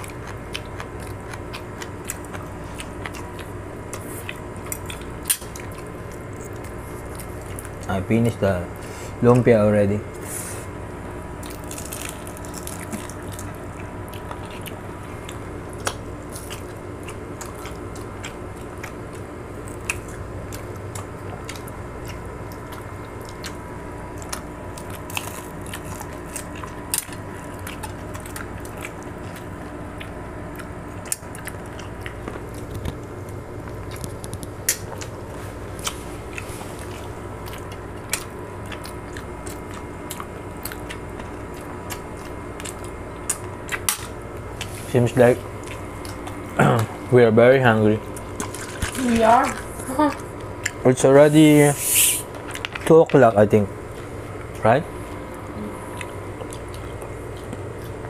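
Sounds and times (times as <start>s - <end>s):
chewing and biting: 0.0s - 8.0s, 11.3s - 47.1s, 48.0s - 51.5s, 52.3s - 53.3s, 53.9s - 58.0s
steady hum: 0.0s - 58.0s.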